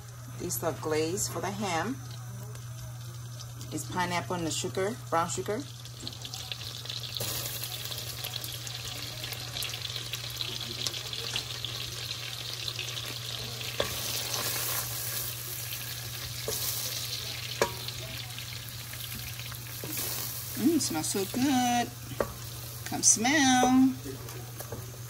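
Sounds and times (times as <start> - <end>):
garlic sizzling in butter: 0.0 - 25.0.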